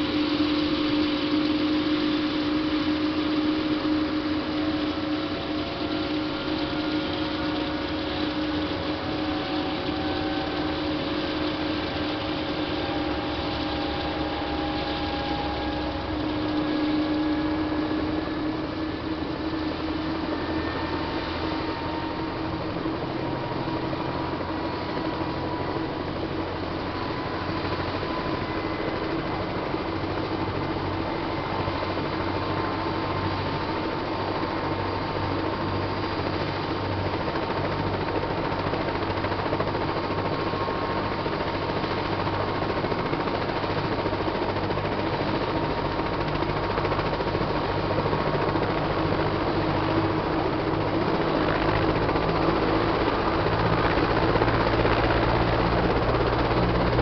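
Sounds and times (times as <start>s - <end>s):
helicopter rotor beating: 0.0s - 57.0s
helicopter turbine whining: 0.0s - 57.0s.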